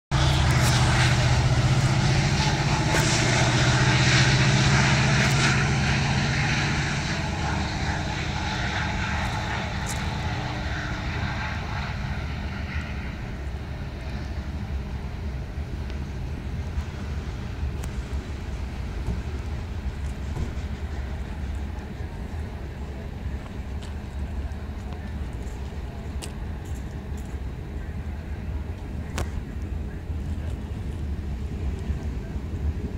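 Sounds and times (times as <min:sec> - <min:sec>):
locomotive engine: 0:00.1 - 0:32.9
train cars rumbling with clicks: 0:00.2 - 0:10.6, 0:15.8 - 0:32.9.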